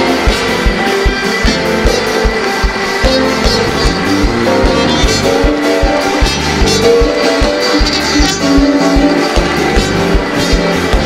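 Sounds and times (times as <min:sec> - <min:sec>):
live church praise music: 0:00.0 - 0:11.0.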